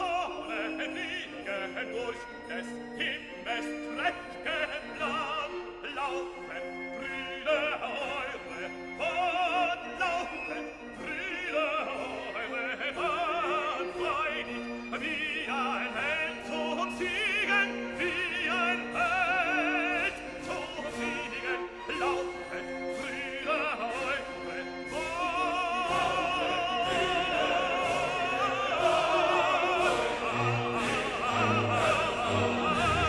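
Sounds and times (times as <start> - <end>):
operatic singing voice: 0.0 - 33.0
orchestral notes: 0.0 - 33.0.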